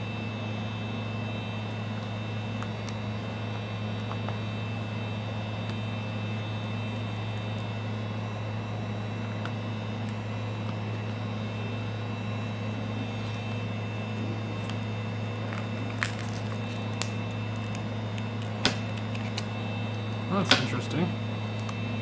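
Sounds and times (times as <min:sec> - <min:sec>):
heat gun hum and hiss: 0:00.0 - 0:22.0.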